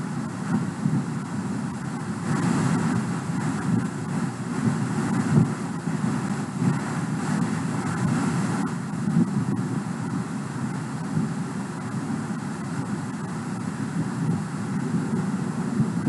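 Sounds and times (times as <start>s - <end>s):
rumbling background noise: 0.0s - 16.0s.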